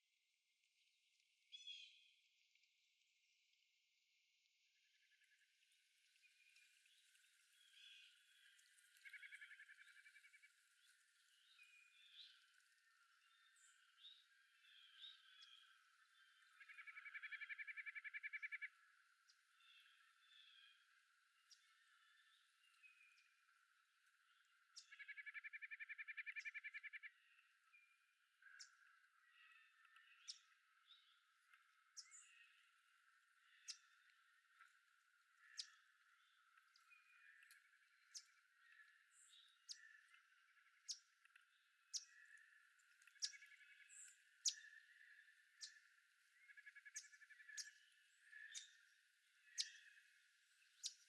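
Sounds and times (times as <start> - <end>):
faint forest ambience: 0.0 - 51.0.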